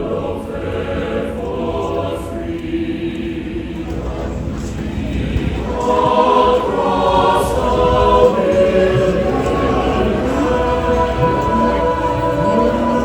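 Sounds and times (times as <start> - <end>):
choir-like voices holding chords: 0.0 - 13.0.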